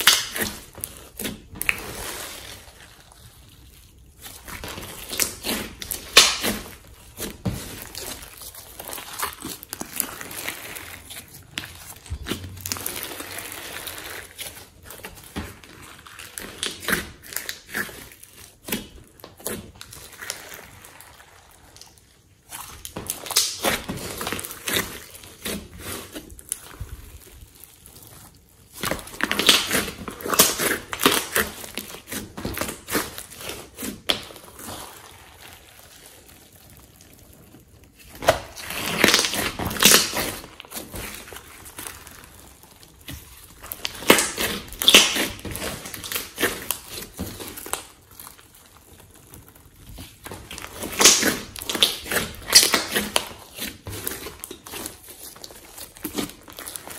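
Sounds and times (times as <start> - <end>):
slime squishing and crackling: 0.0 - 56.9.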